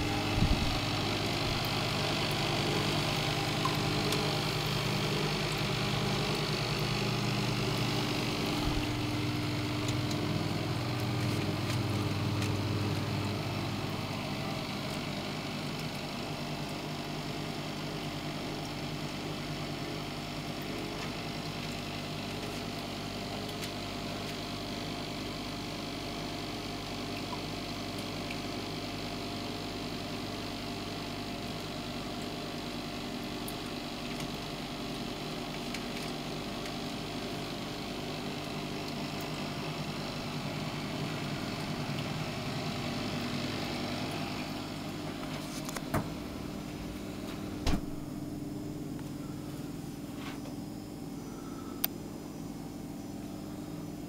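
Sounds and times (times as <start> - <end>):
incubator mechanical hum: 0.0 - 54.0.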